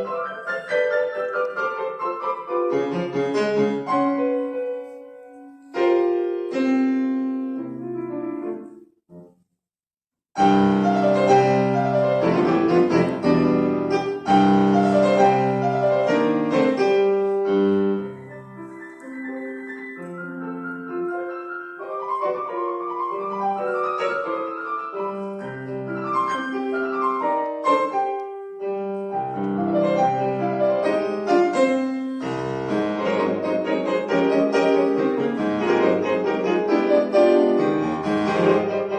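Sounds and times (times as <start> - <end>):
solo piano piece: 0.0 - 9.4, 10.4 - 38.9.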